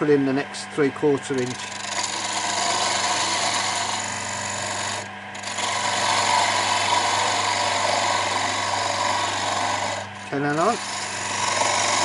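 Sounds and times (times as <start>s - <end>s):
lathe humming: 0.0s - 12.0s
turning tool scraping wood: 1.1s - 12.0s.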